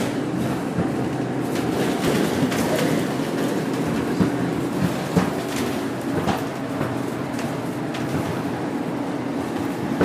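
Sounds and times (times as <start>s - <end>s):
bus engine and road rumble: 0.0s - 10.0s
sharp knocks and rattles: 0.4s - 8.5s.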